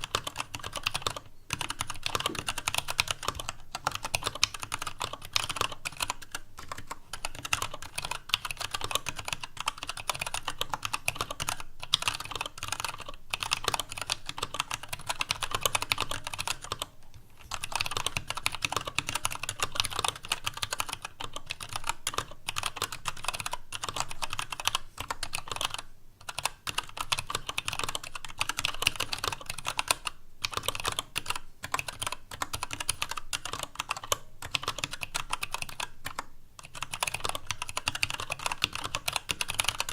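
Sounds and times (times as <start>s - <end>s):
fast mechanical keyboard typing: 0.0s - 39.9s
low desk noise: 0.0s - 39.9s.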